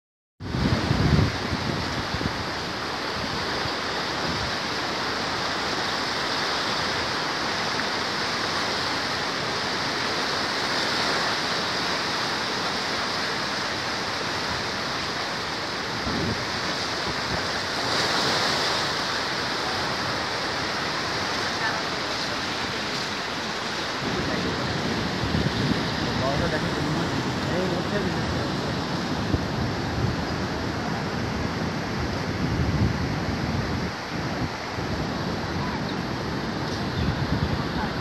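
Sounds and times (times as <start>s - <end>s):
loud rush of turbulent water: 0.4s - 38.0s.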